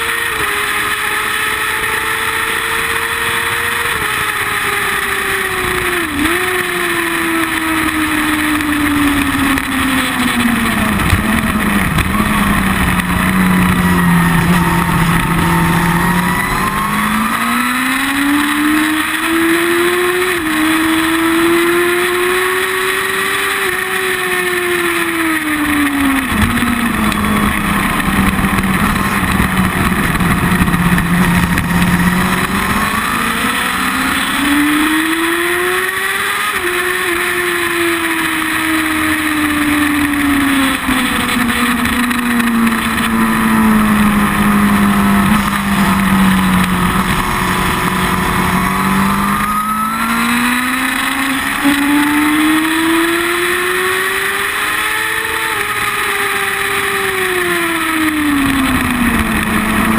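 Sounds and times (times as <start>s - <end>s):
motorcycle engine at speed: 0.0s - 59.9s
wind and road noise: 0.0s - 59.9s.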